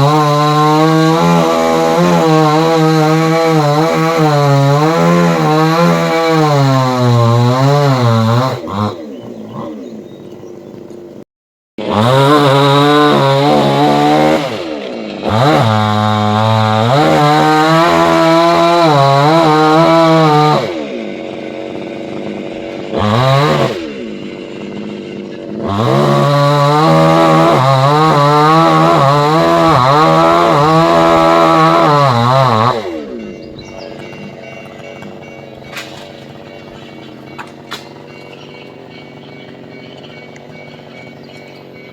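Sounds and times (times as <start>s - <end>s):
chainsaw revving and cutting: 0.0s - 11.2s, 11.8s - 41.9s.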